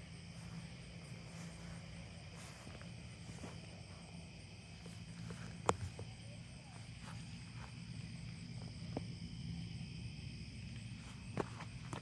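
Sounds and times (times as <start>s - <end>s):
crickets chirping: 0.0s - 12.0s
low steady hum: 0.0s - 12.0s.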